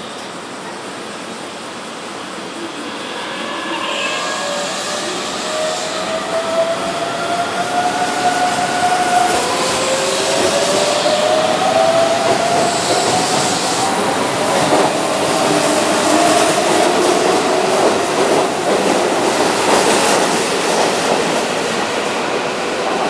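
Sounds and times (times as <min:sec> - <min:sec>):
train running noise: 0:00.0 - 0:23.0
electric train inverter whining: 0:01.6 - 0:20.8.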